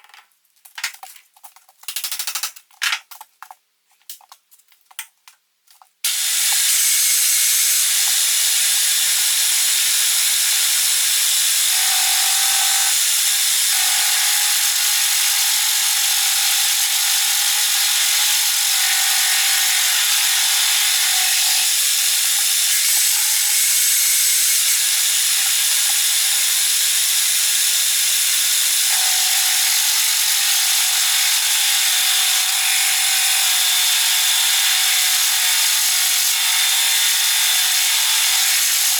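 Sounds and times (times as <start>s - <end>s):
angle grinder grinding steel: 6.1s - 38.9s.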